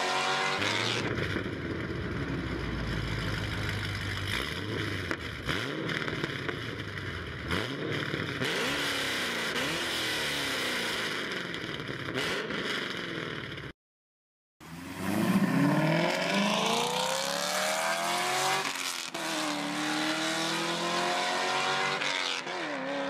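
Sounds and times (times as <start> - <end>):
car engine idling and revving: 0.0 - 13.7, 14.6 - 23.0.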